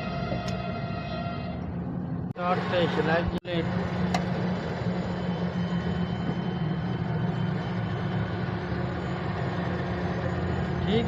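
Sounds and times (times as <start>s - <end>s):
car engine idling: 1.9s - 11.0s.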